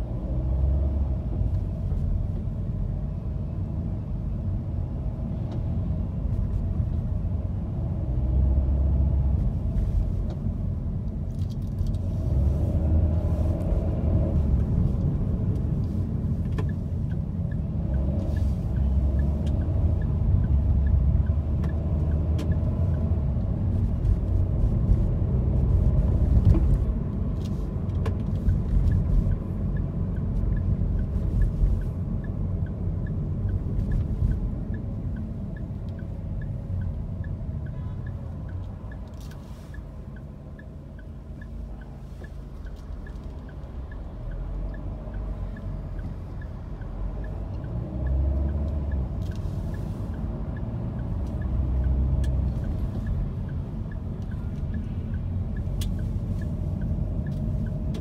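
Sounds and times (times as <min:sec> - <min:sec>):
engine and road rumble: 0:00.0 - 0:58.0
turn signal ticking: 0:00.0 - 0:58.0.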